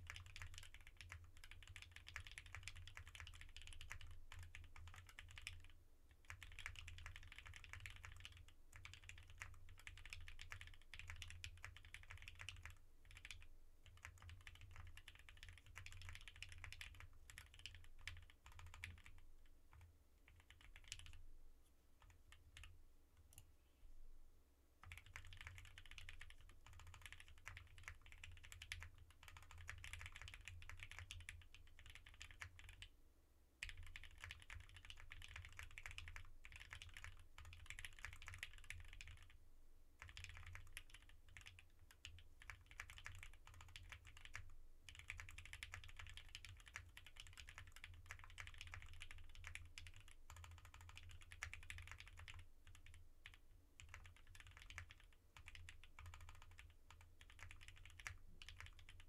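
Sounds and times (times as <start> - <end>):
mechanical keyboard typing: 0.0 - 21.2, 24.8 - 32.9, 33.6 - 39.3, 40.0 - 59.0.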